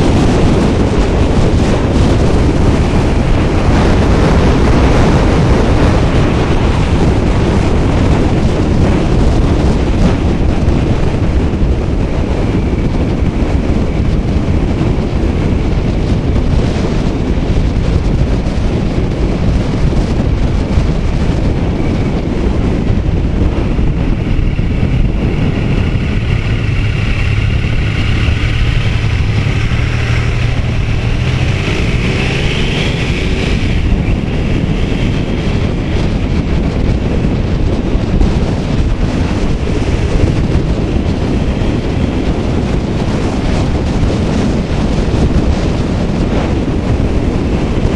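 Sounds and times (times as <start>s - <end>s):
motorcycle engine: 0.0s - 47.9s
wind buffeting microphone: 0.0s - 47.9s.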